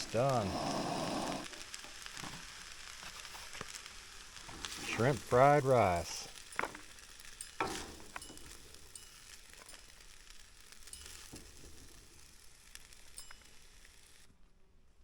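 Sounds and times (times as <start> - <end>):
food sizzling in a frying pan: 0.0 - 14.3.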